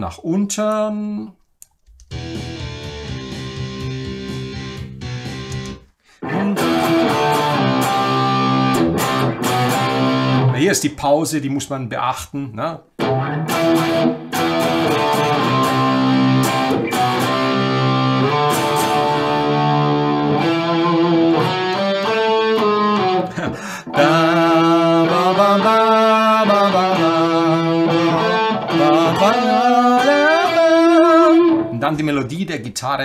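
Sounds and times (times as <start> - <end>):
electric guitar rock riff: 2.1 - 10.7, 13.0 - 31.8.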